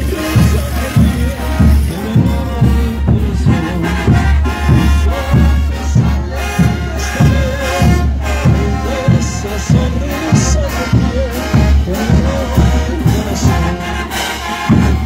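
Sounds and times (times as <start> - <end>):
bass drum beat: 0.0 - 15.0
brass band melody: 0.0 - 15.0.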